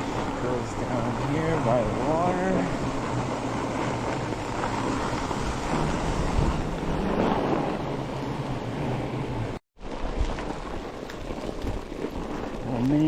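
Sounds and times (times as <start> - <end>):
bike rolling on snow: 0.0 - 13.0
wind rushing over microphone: 0.0 - 13.0.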